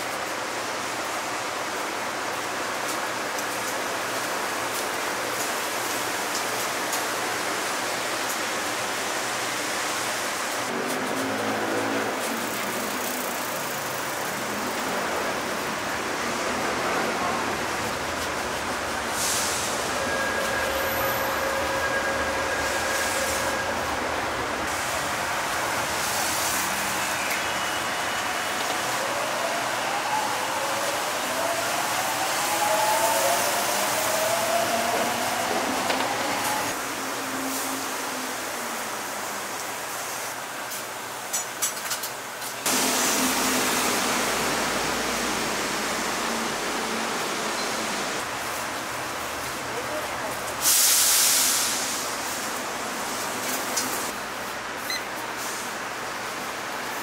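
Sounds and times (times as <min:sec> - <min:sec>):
loud steady background noise: 0:00.0 - 0:57.0.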